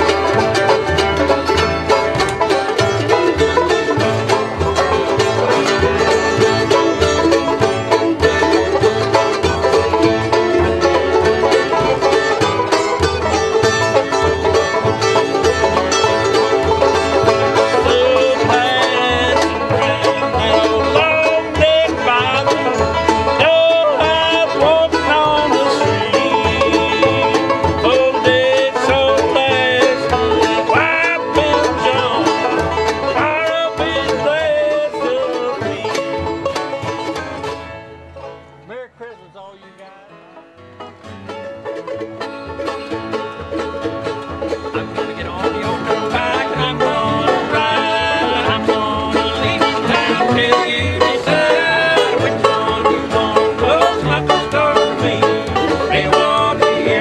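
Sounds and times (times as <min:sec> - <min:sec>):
banjo picking: 0:00.0 - 0:57.0
bending melody line: 0:00.0 - 0:57.0
mandolin picking: 0:00.0 - 0:57.0.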